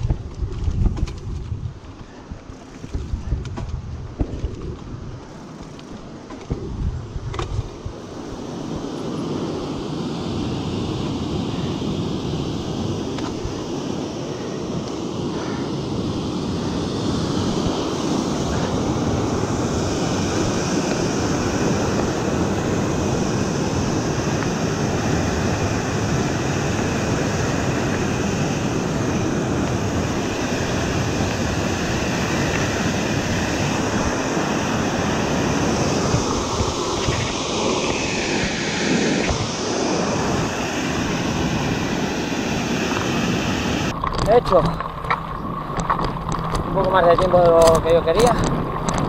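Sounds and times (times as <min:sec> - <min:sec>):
wind noise on microphone: 0:00.0 - 0:49.0.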